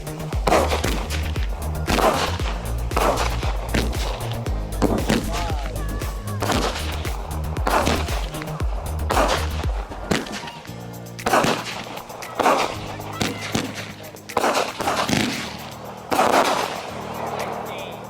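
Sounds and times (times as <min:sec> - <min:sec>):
firework cake bursts: 0:00.0 - 0:17.9.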